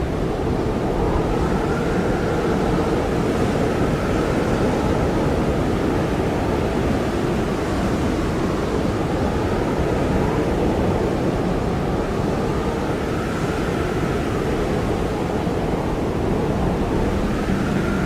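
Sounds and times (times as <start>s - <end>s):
blizzard wind with faint whistle: 0.0s - 18.0s.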